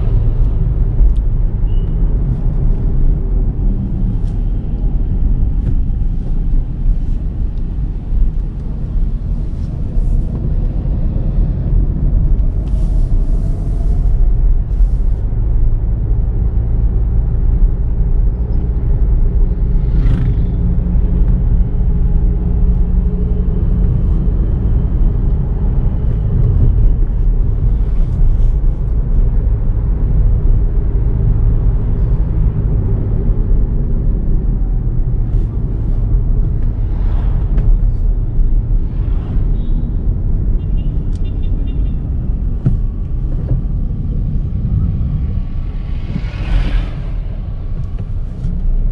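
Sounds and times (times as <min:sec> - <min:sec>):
car engine: 0:00.0 - 0:48.9.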